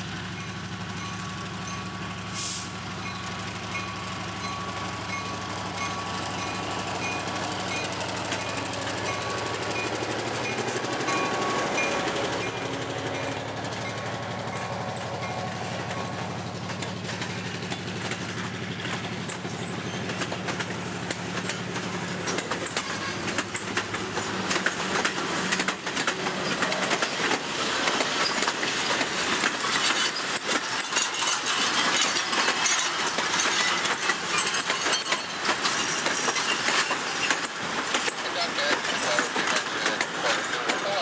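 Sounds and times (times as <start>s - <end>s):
diesel locomotive engine humming: 0.0s - 41.0s
train wheels clicking over rail joints: 0.1s - 41.0s.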